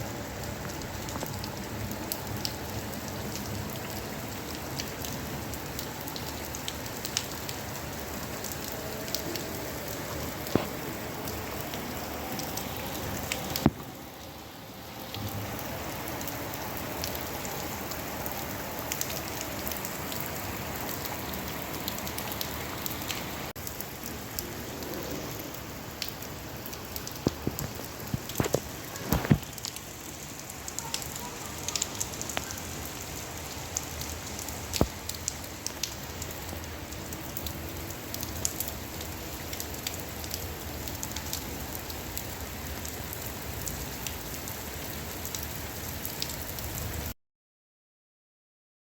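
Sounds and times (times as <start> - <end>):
steady rain falling: 0.0 - 47.2
raindrops ticking: 0.3 - 47.0.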